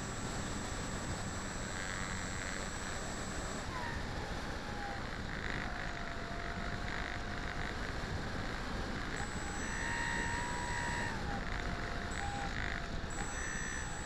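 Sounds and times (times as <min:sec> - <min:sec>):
model airplane engine: 0:00.0 - 0:14.0.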